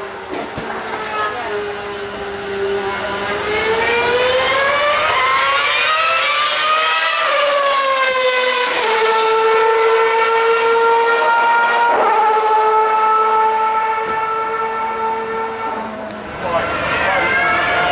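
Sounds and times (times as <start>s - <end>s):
racing car engine at high revs: 0.0s - 17.9s.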